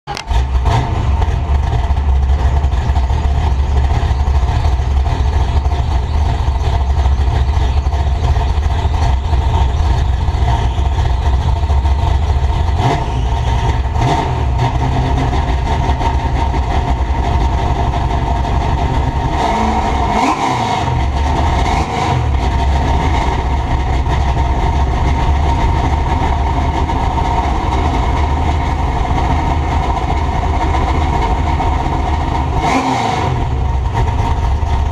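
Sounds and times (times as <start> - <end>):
truck engine running: 0.0 - 34.9
heavy low rumble: 0.1 - 34.9
road and wind noise: 0.1 - 34.9.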